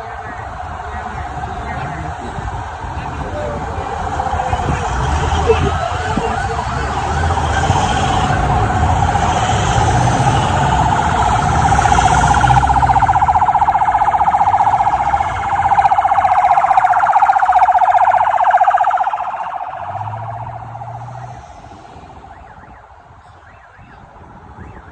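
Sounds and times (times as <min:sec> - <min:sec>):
vehicles passing rumble: 0:00.0 - 0:24.9
warbling police siren: 0:00.0 - 0:24.9.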